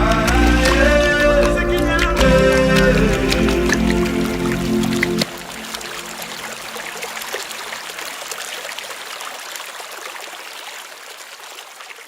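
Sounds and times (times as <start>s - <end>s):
stream water trickling: 0.0s - 12.0s.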